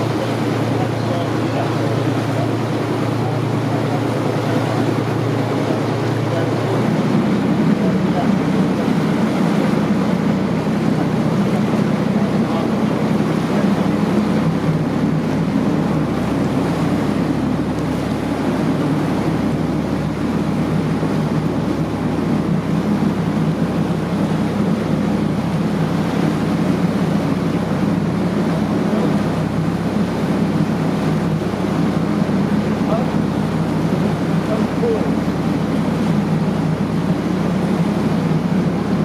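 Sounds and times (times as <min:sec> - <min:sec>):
motorboat engine drone: 0:00.0 - 0:39.0
water rushing past hull: 0:00.0 - 0:39.0.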